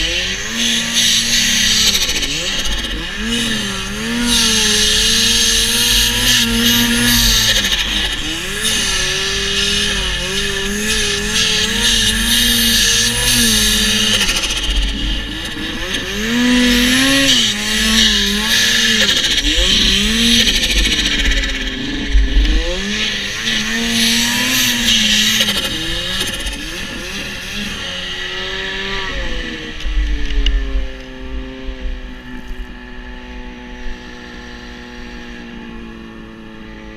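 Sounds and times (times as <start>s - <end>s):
snowmobile engine revving: 0.0s - 36.9s.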